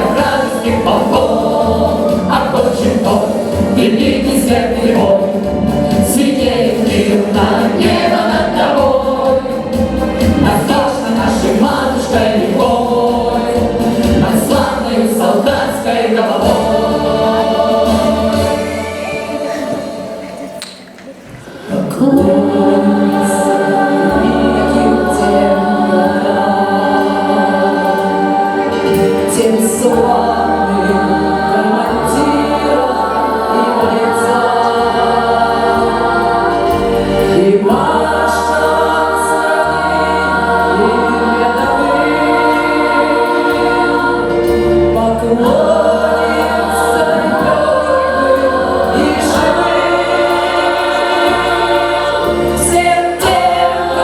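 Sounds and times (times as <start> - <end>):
steady bass line: 0.0 - 18.8, 22.2 - 54.0
musical backing track: 0.0 - 54.0
vocal ensemble singing: 0.0 - 54.0.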